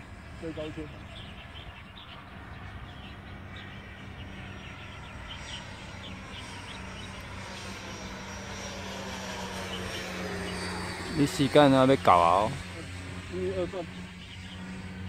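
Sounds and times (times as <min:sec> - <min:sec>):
model jet fans whining: 0:00.0 - 0:15.0.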